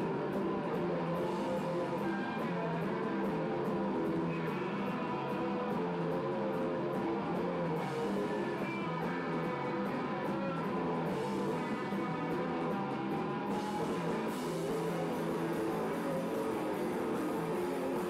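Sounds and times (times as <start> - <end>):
drum kit with cymbals: 0.0 - 18.0
electric guitar: 0.0 - 18.0.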